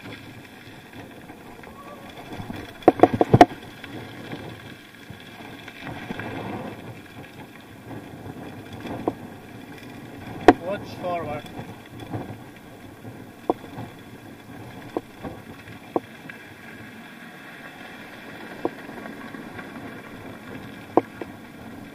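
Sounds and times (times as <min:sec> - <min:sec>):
bicycle tyre and wind noise: 0:00.0 - 0:21.9.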